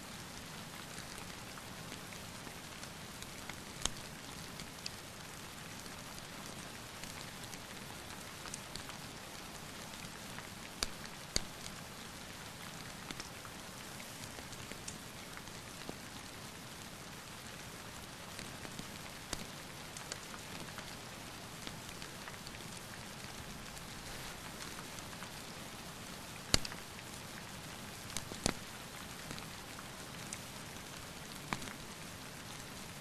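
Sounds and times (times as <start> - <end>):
steady rain: 0.0 - 33.0
wood fire crackling and popping: 2.8 - 11.8, 12.7 - 32.6.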